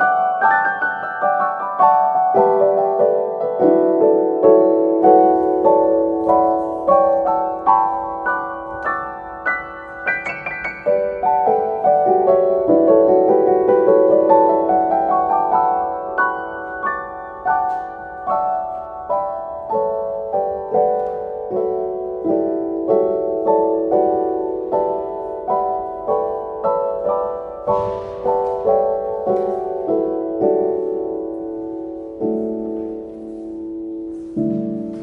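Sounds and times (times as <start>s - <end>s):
solo piano melody: 0.0s - 35.0s.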